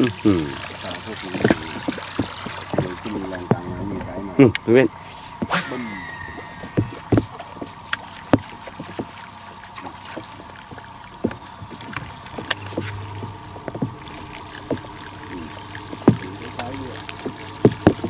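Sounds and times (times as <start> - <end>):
faint steady hum: 0.0 - 18.0
low hum: 0.0 - 18.0.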